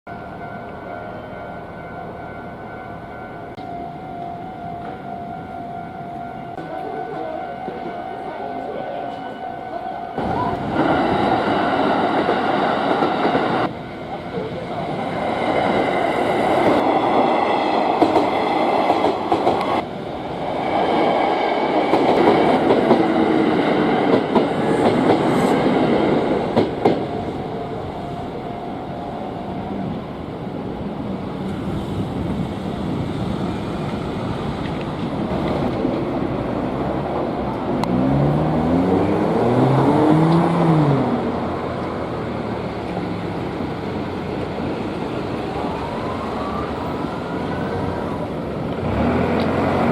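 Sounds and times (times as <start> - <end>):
train rumble and wheel clatter: 0.1 - 49.9.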